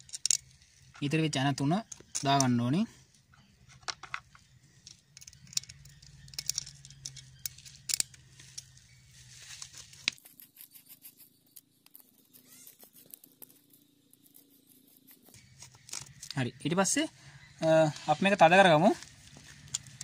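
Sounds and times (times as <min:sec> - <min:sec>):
metallic clicks and scrapes: 0:00.0 - 0:01.1, 0:01.8 - 0:08.9, 0:09.6 - 0:16.4, 0:17.9 - 0:20.0.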